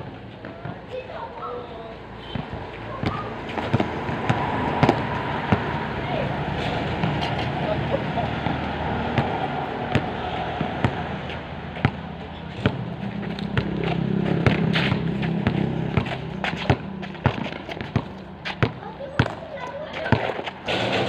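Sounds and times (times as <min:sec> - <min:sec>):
basketball bouncing on concrete: 0:02.2 - 0:07.6, 0:08.3 - 0:21.0.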